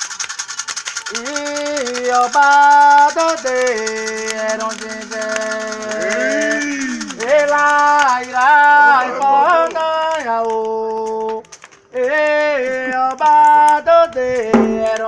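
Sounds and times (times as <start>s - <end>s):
person singing a chant: 1.1s - 15.0s.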